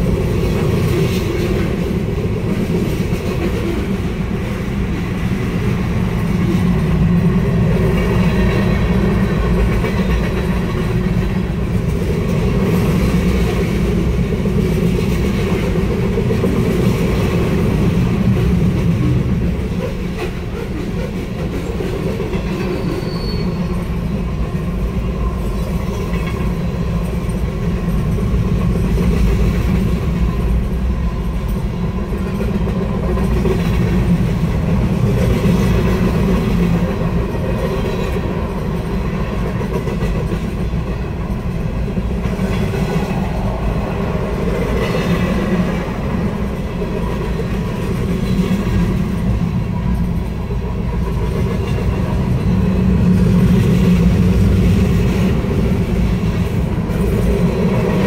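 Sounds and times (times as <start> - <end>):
freight train rumbling past: 0.0 - 58.0
steel wheels clattering on rails: 0.0 - 58.0.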